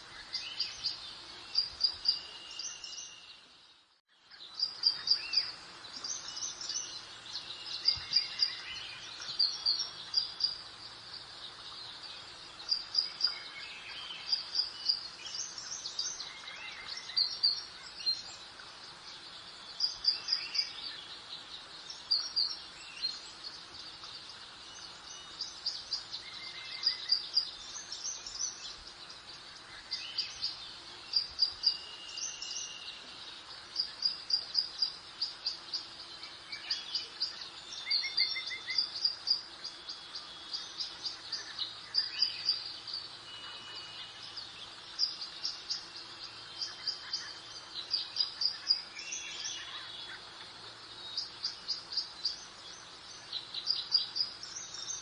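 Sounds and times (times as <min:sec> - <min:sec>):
bird chirping: 0:00.0 - 0:55.0
soft background hiss: 0:00.0 - 0:55.0.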